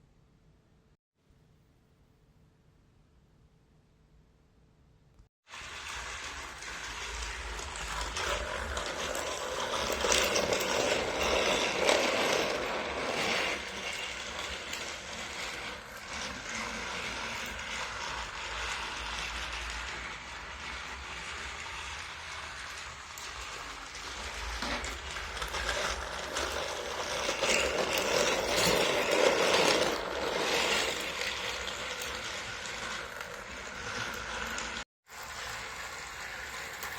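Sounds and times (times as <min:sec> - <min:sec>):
toy train motor and gears: 0:05.5 - 0:36.9.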